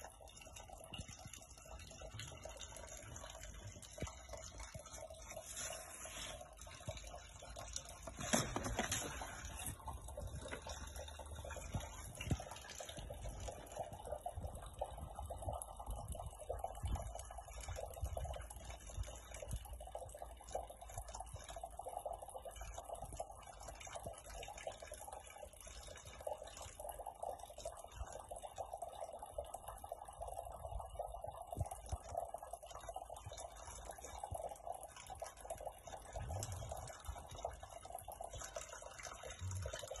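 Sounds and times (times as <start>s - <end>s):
faint running water: 0.0s - 40.0s.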